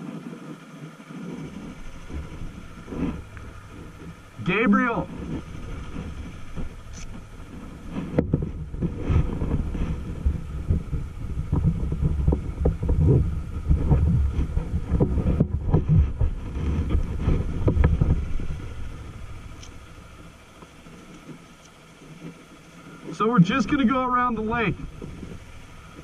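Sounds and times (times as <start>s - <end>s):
wind buffeting microphone: 0.0s - 26.0s
irregular thumps: 1.4s - 22.8s.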